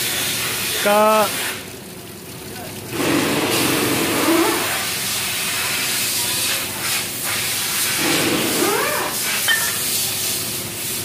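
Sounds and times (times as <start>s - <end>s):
liquid pouring into container: 0.0s - 11.0s.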